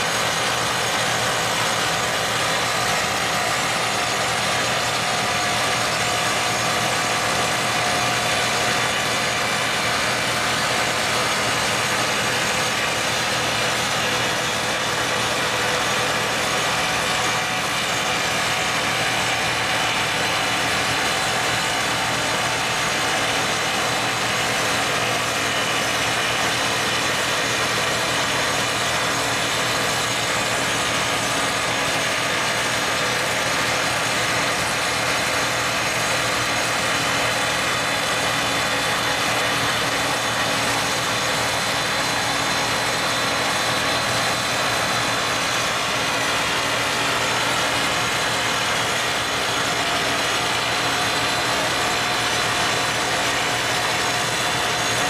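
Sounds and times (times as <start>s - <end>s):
hydraulic rock drill hammering: 0.0s - 55.0s.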